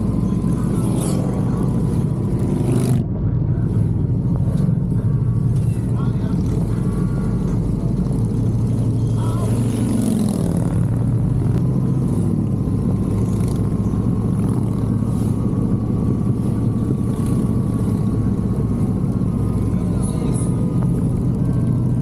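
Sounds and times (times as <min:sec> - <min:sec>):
motorcycle engine cruising: 0:00.0 - 0:22.0
wind and road rumble: 0:00.0 - 0:22.0.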